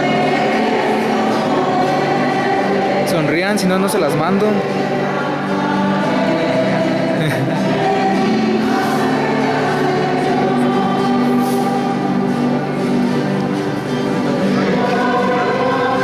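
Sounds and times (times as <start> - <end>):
choir singing religious music: 0.0 - 16.0
musical accompaniment: 0.0 - 16.0.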